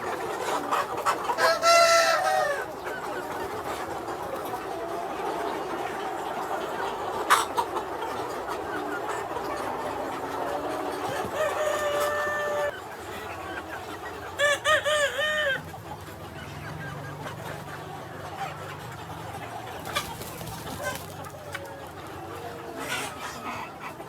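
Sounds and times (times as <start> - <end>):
chickens calling: 0.0 - 24.0
soft chicken clucking: 0.0 - 24.0.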